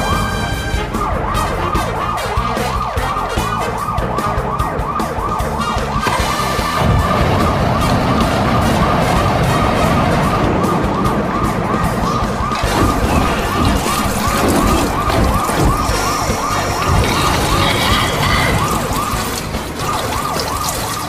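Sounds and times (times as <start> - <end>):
dense rumble: 0.0 - 20.9
electronic siren wailing: 0.0 - 21.0.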